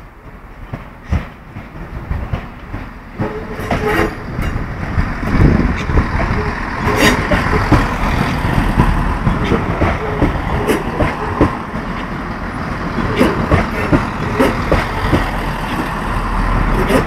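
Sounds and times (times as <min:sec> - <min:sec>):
train clanks and knocks: 0:00.0 - 0:17.0
train rumbling: 0:00.0 - 0:17.0.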